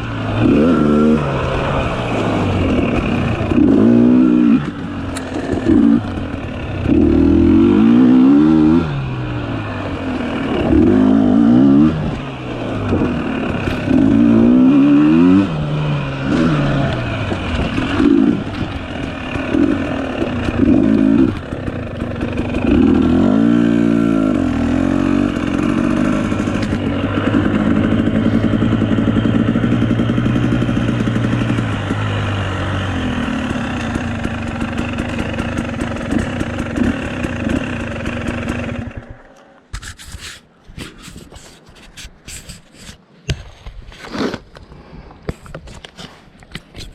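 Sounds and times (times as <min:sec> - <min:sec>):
dirt bike engine revving: 0:00.0 - 0:39.8.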